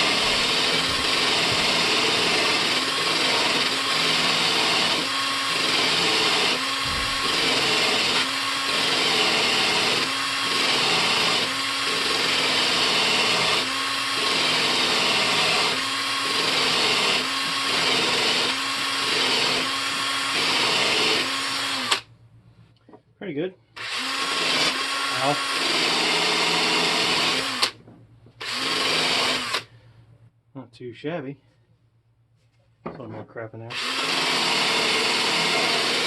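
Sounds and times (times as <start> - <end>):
electric drill running under load: 0.0 - 22.1, 23.8 - 27.8, 28.4 - 29.7, 33.7 - 36.0.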